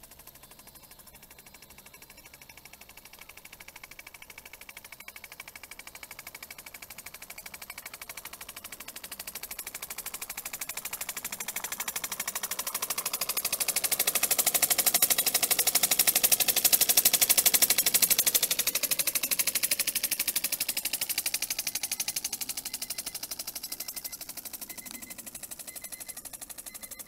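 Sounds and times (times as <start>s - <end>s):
steam engine exhaust puffing: 1.2s - 27.0s.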